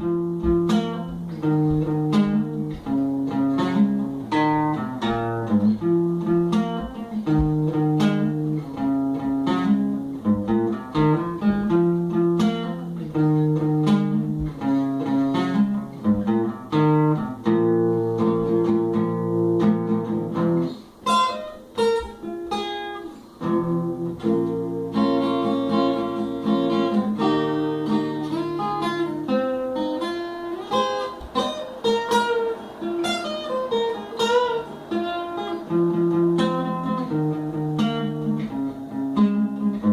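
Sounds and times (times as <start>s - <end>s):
guitar plucked notes and chords: 0.0s - 39.9s.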